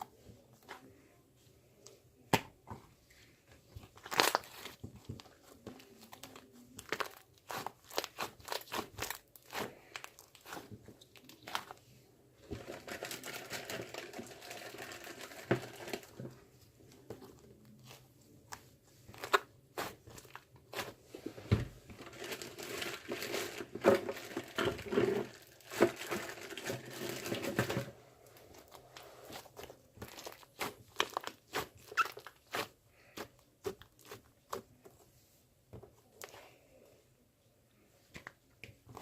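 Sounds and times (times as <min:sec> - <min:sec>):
crinkling and rustling: 0:02.6 - 0:36.8, 0:38.0 - 0:39.0.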